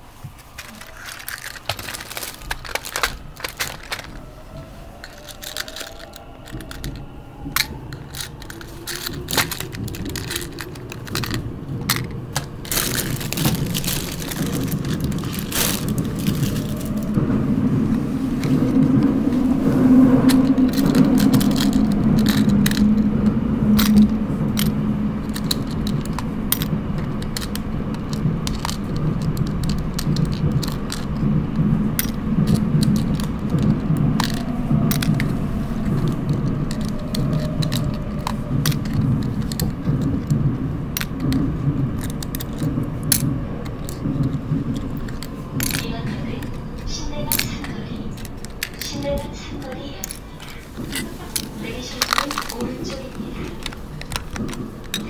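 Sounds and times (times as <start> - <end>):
subway train rumble: 0.0 - 55.0
plastic toys clicking in a box: 0.5 - 4.2, 5.0 - 17.2, 20.2 - 40.4, 41.0 - 55.0.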